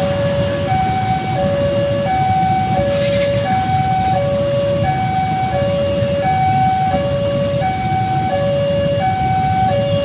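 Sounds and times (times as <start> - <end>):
level crossing two-tone alarm: 0.0 - 10.0
train rumble: 0.0 - 10.0.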